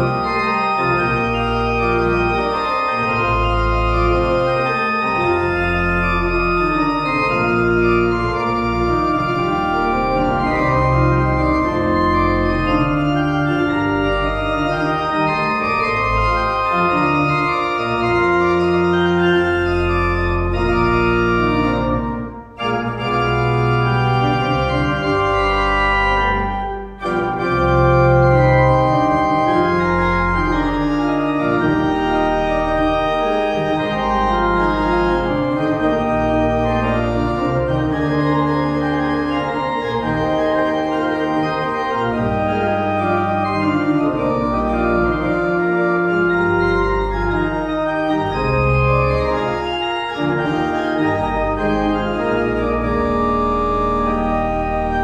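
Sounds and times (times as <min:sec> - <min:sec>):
pipe organ chords: 0:00.0 - 0:55.0.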